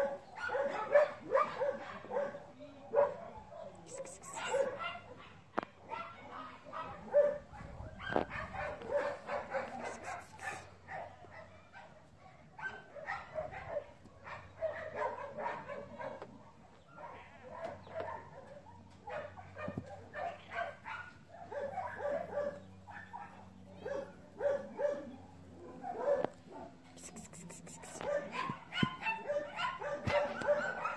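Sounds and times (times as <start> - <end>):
small dog barking and yapping: 0.0 - 12.0, 12.6 - 16.3, 16.9 - 30.9.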